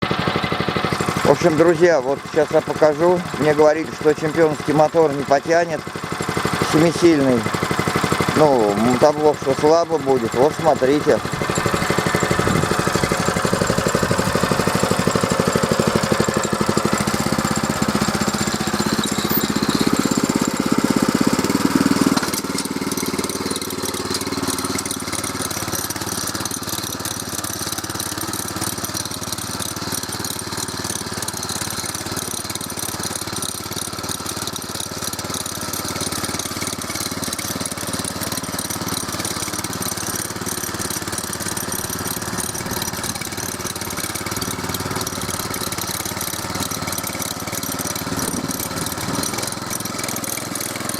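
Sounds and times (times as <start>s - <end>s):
tractor petrol engine running: 0.0s - 50.9s.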